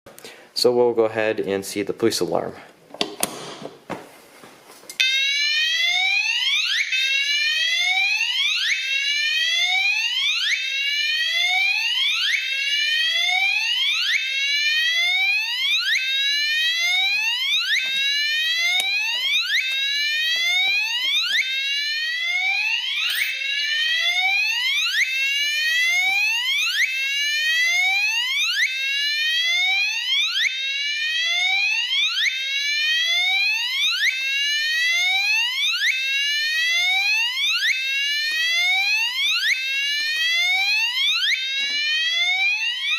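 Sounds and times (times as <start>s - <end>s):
police siren whooping: 5.0s - 42.9s.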